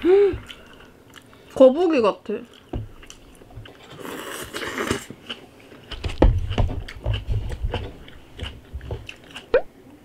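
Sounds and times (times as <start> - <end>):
wet chewing: 0.3 - 1.6, 2.4 - 9.6.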